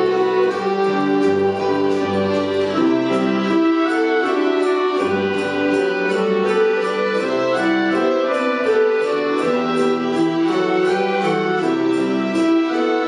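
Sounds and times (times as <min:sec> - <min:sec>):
folk orchestra playing: 0:00.0 - 0:13.0.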